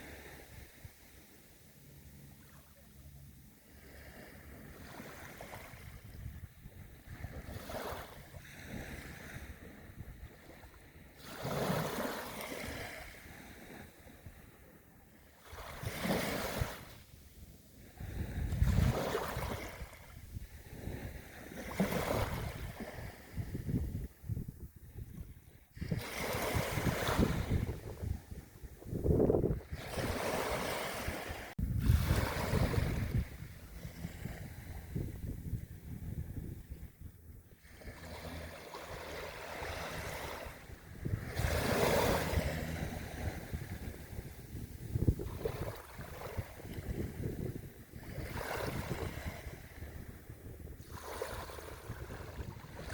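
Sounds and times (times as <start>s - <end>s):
small waves breaking on shore: 0.0s - 52.9s
wind rumbling on microphone: 0.0s - 52.9s.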